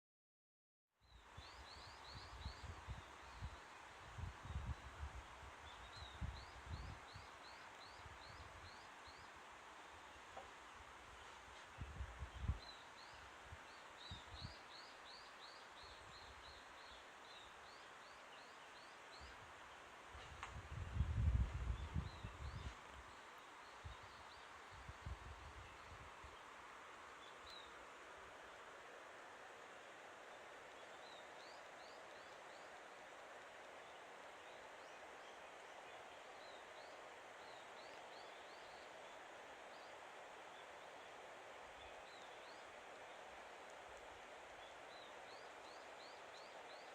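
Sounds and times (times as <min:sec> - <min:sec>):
faint outdoor hiss: 0:01.0 - 0:46.9.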